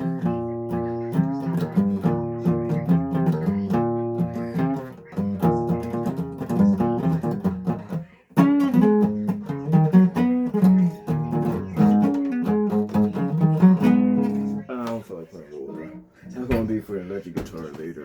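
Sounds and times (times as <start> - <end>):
acoustic guitar strummed chords: 0.0 - 14.9.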